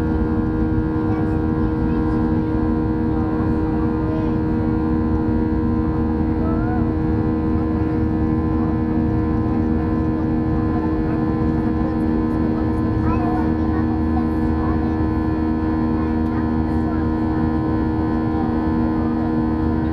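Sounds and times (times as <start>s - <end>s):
constant rumble: 0.0s - 19.9s
steady hum tones: 0.0s - 19.9s.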